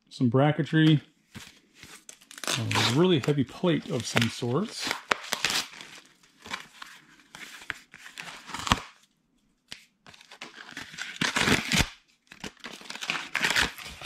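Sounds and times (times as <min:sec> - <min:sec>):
packing material crinkling: 0:01.4 - 0:09.0, 0:10.2 - 0:14.0.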